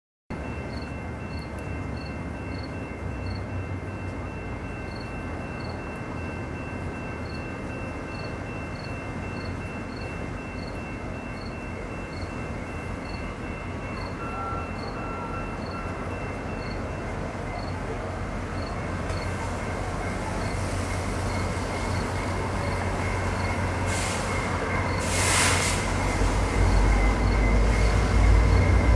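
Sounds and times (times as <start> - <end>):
distant diesel locomotive rumble: 0.3 - 28.9
outdoor background noise: 0.3 - 28.9.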